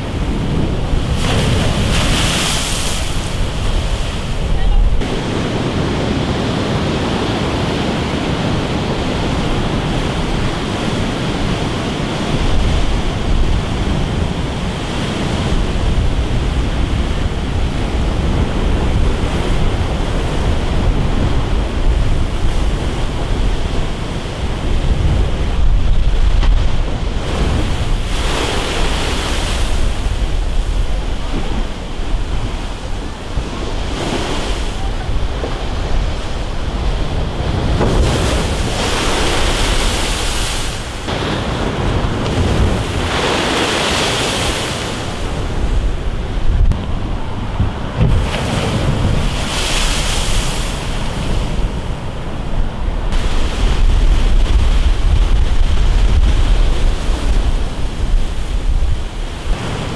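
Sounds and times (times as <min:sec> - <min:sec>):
sea surf breaking: 0:00.0 - 0:59.9
wind buffeting microphone: 0:00.0 - 0:59.9.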